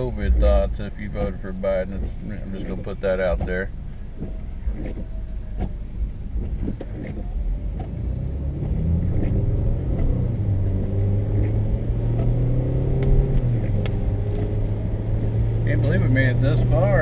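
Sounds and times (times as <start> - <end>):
car engine from inside cabin: 0.0 - 17.0
road noise: 0.0 - 17.0.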